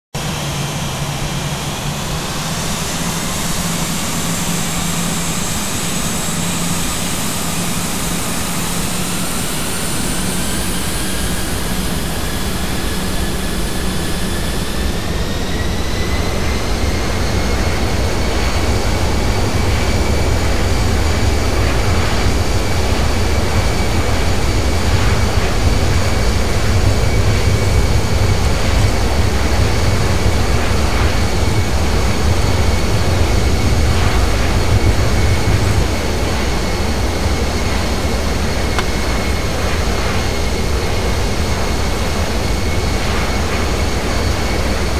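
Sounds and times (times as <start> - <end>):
jet engines spooling up: 0.2 - 44.9.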